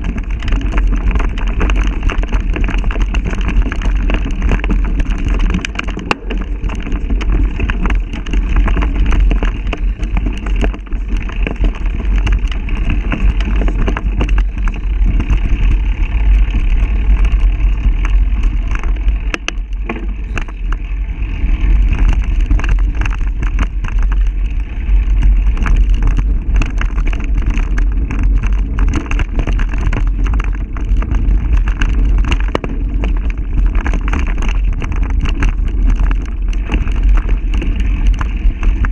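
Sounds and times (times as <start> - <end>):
bike rattling and clicking: 0.0 - 38.9
wind rumbling on microphone: 0.0 - 38.9.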